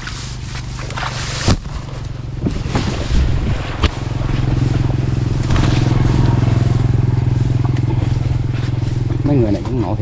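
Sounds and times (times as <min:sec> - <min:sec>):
small engine humming: 0:00.0 - 0:10.0
tall grass rustling and snapping: 0:00.0 - 0:10.0.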